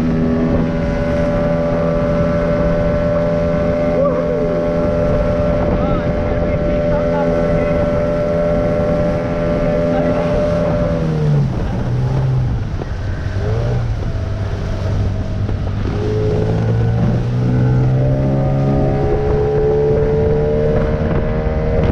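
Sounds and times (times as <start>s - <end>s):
small outboard motor: 0.0s - 21.9s
wind buffeting microphone: 0.0s - 21.9s.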